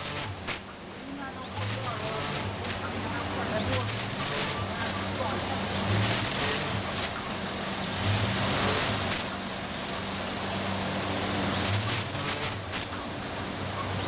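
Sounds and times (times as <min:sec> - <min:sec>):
mechanical hissing: 0:00.0 - 0:14.0
packaging machines humming: 0:00.0 - 0:14.0.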